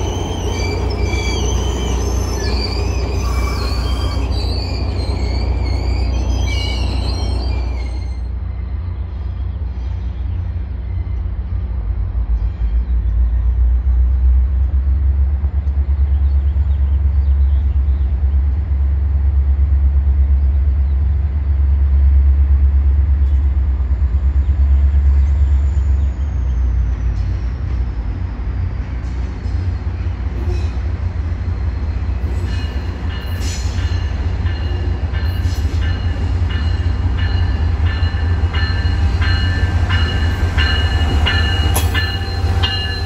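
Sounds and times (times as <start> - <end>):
diesel locomotive rumble: 0.0 - 43.0.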